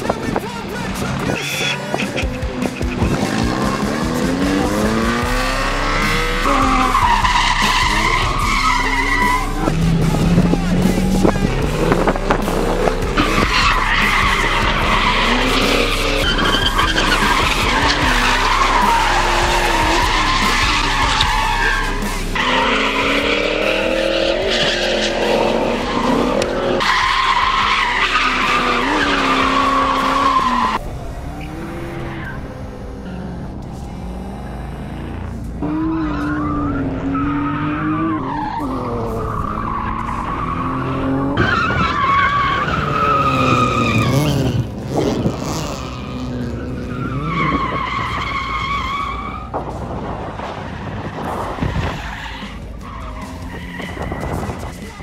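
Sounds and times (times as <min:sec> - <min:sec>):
car engines revving: 0:00.0 - 0:55.0
tyres squealing: 0:00.8 - 0:30.8, 0:34.1 - 0:49.5, 0:50.5 - 0:55.0.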